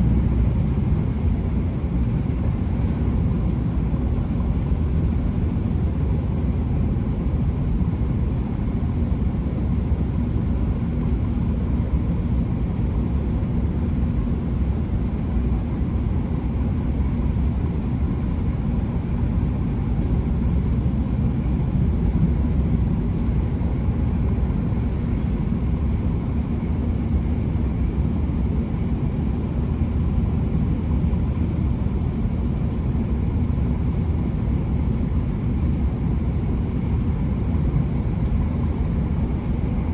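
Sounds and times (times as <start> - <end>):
diesel train running rumble: 0.0 - 39.9.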